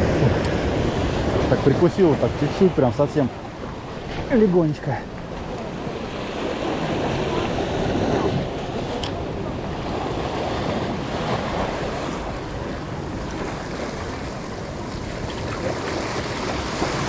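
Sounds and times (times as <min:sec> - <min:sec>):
ocean surf breaking over rocks: 0:00.0 - 0:17.0.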